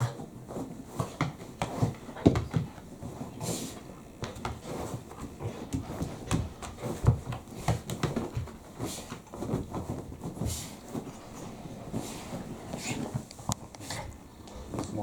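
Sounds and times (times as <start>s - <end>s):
dog paws scratching: 0.0s - 15.0s
fabric rustling: 0.0s - 15.0s.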